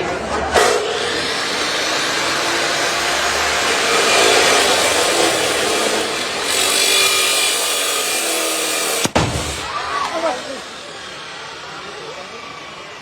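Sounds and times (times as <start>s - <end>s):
power saw cutting metal: 0.0s - 13.0s.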